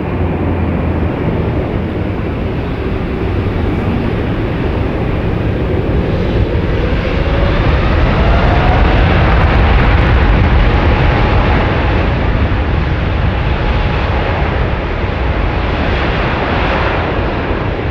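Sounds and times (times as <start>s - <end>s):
jet engines roaring: 0.0s - 17.9s.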